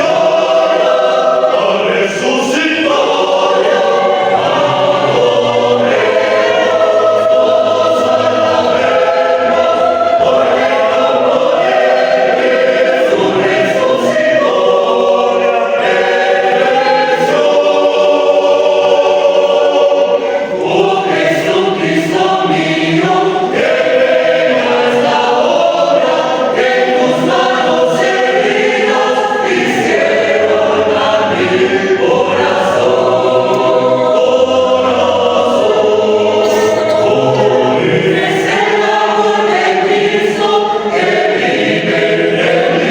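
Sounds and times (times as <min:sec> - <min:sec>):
choir singing: 0:00.0 - 0:42.9.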